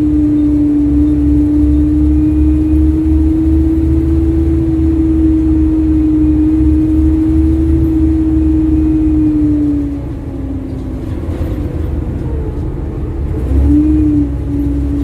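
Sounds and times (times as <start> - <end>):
bus engine whine and rumble: 0.0 - 15.0
exhaust ticking: 0.0 - 15.0.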